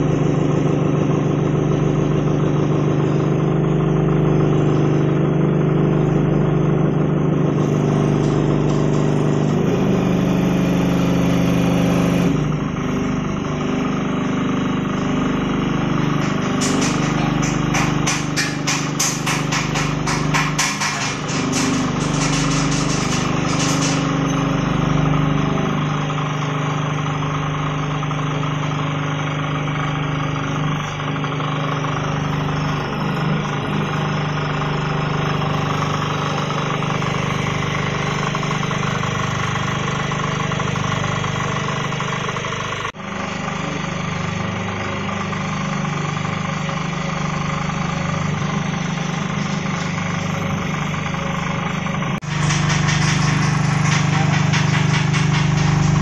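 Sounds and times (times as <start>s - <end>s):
vibrating sieve humming and rattling: 0.0s - 41.9s, 47.5s - 56.0s.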